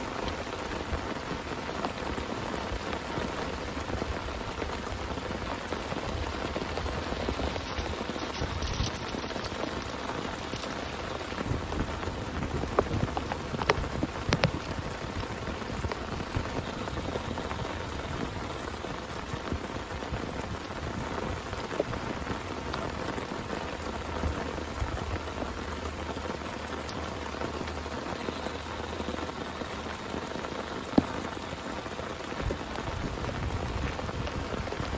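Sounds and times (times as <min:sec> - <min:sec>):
raindrops striking close by: 0:00.0 - 0:34.9
steady rain patter: 0:00.0 - 0:34.9.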